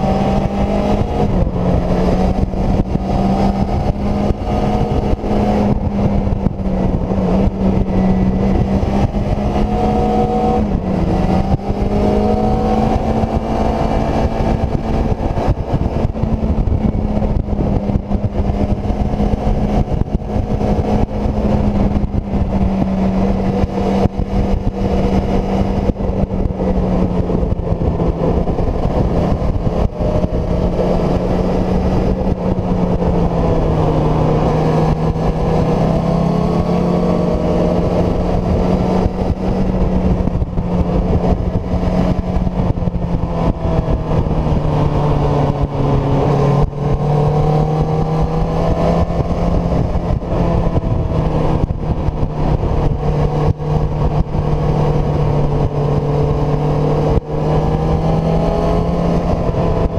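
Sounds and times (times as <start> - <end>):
motorcycle engine at high revs: 0.0 - 59.9
wind and road noise: 0.0 - 59.9.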